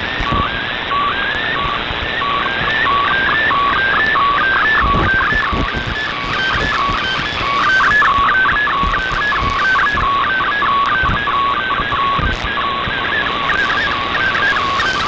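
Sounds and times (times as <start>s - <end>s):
radio hiss: 0.0s - 15.0s
static crackles: 0.0s - 15.0s
warbling digital data tones: 0.0s - 15.0s.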